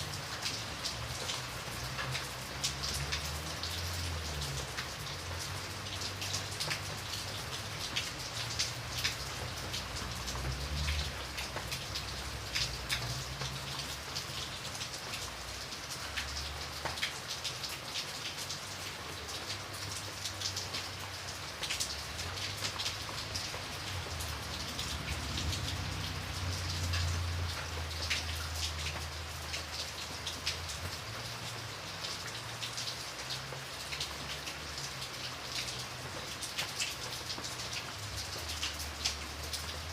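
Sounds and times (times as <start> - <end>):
rain falling: 0.0 - 39.9
raindrops ticking on a surface: 0.0 - 39.9.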